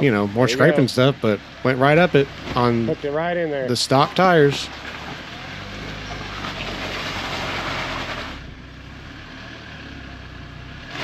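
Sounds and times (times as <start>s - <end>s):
rough off-road rumble: 0.0s - 11.0s.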